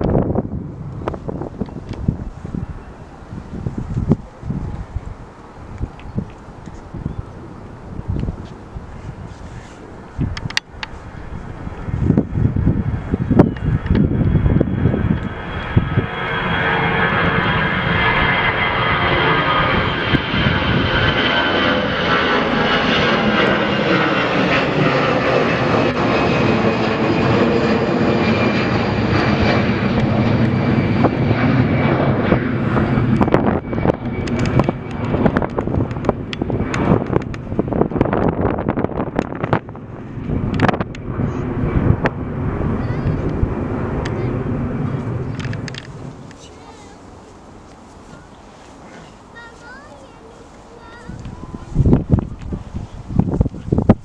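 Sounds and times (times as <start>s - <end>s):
jet engines roaring and whining: 0.0s - 54.0s.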